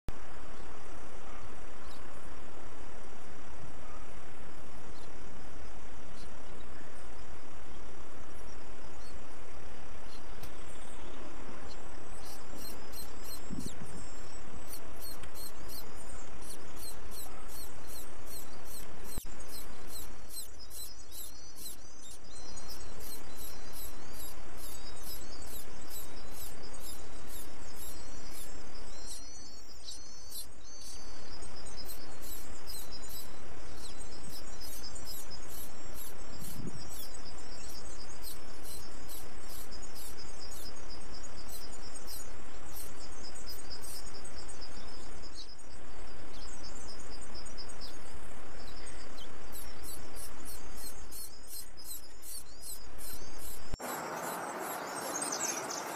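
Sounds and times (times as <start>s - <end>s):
insects chirping: 0.1s - 55.9s.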